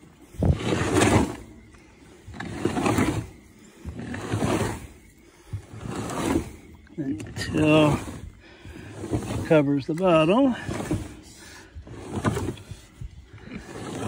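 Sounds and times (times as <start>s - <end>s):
metal arm scraping through feed: 0.4s - 14.0s.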